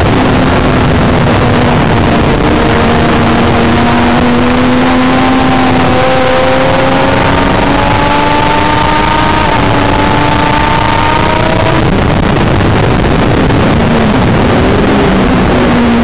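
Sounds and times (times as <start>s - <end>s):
motorcycle engine at high revs: 0.0s - 16.0s
wind rush on microphone: 0.0s - 16.0s.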